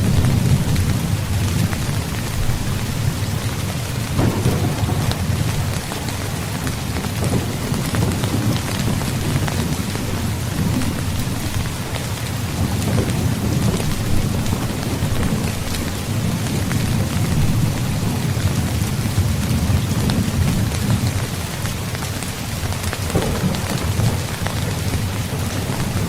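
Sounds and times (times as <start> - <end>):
distant thunder rumbling: 0.0 - 26.0
heavy rain falling: 0.0 - 26.0.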